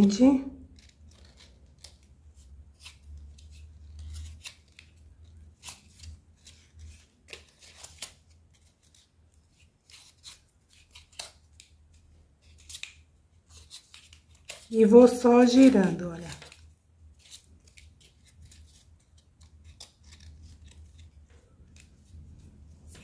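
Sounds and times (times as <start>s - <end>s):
paper tape crinkling: 0.0s - 23.0s.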